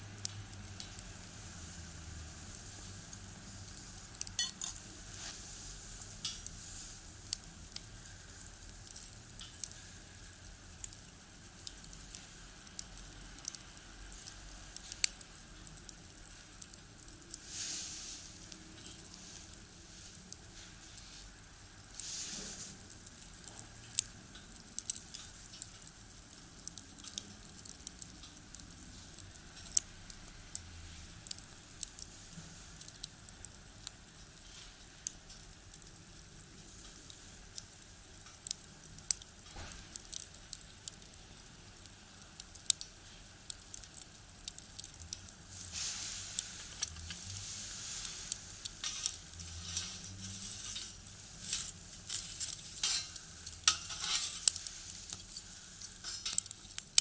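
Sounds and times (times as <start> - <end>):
soft hiss: 0.0 - 57.0
firewood crackling and popping: 0.1 - 57.0.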